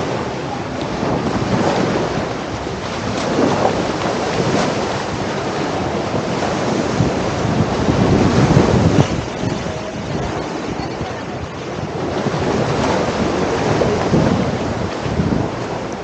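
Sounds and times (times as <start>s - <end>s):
sea waves washing onto beach: 0.0s - 16.0s
wind gusting on microphone: 0.0s - 16.0s.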